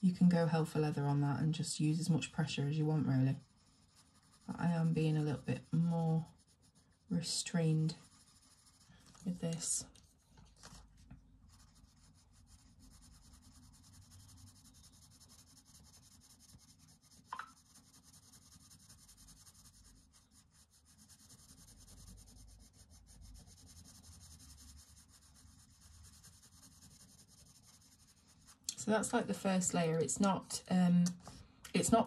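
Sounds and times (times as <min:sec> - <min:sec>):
coloured pencil scratching on paper: 0:00.2 - 0:32.0.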